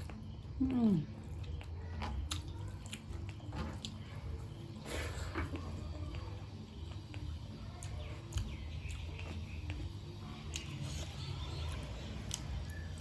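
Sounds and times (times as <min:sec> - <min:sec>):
chewing and mouth smacks: 0:01.2 - 0:13.0.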